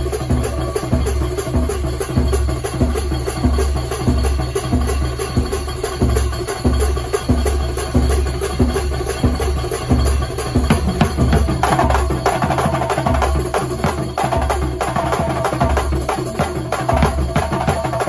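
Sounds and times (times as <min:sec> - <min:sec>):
fast hand-drum percussion: 0:00.0 - 0:18.0.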